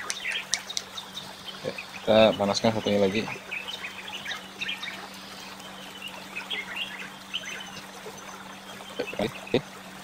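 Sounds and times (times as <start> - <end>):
birds chirping: 0.0 - 10.0
low steady hum: 0.0 - 10.0.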